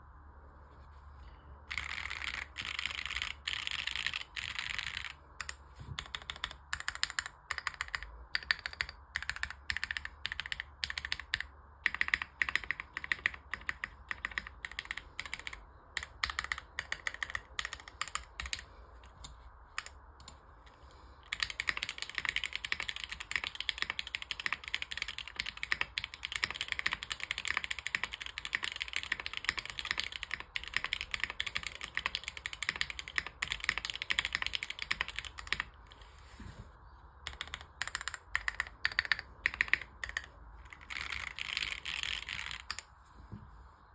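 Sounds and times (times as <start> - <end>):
mechanical keyboard typing: 1.7 - 20.4, 21.2 - 35.8, 37.2 - 42.9.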